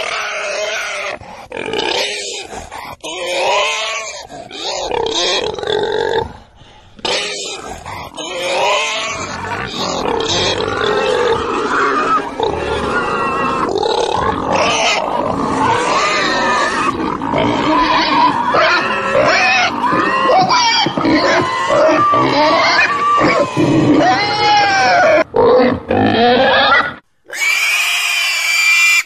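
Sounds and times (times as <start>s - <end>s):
pig calling: 0.0s - 6.3s, 7.0s - 29.0s.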